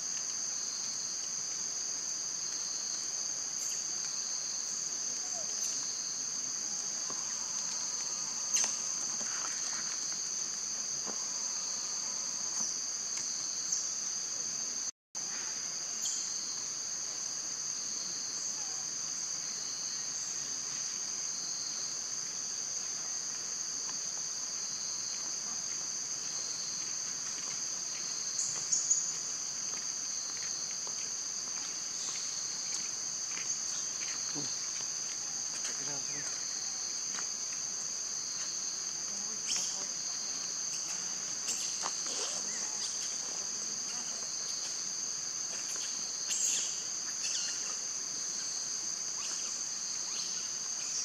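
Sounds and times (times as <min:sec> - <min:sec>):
insects chorus: 0:00.0 - 0:51.0.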